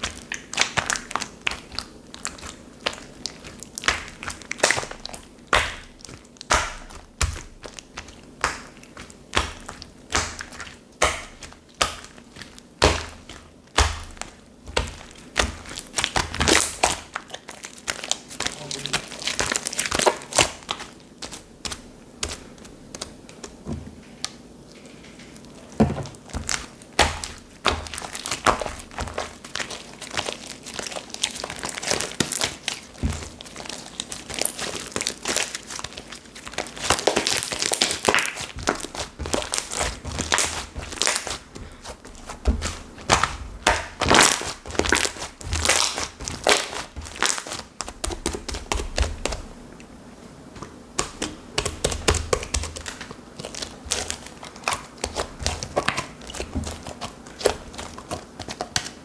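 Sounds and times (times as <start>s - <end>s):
slime being squished by hand: 0.0s - 24.4s, 25.4s - 49.6s, 50.5s - 59.0s.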